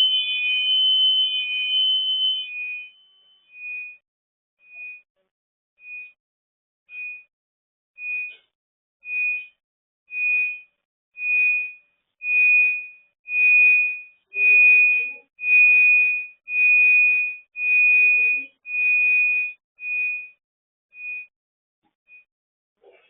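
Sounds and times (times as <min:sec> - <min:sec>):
electronic alarm beeping: 0:00.0 - 0:04.0, 0:04.6 - 0:05.1, 0:05.8 - 0:06.2, 0:06.9 - 0:07.3, 0:08.0 - 0:21.3, 0:22.1 - 0:22.3.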